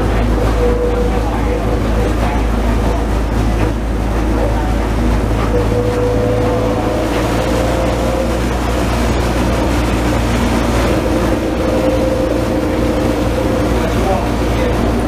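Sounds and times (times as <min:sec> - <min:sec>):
thin motor whine: 0:00.0 - 0:15.0
train rumbling: 0:00.0 - 0:15.0.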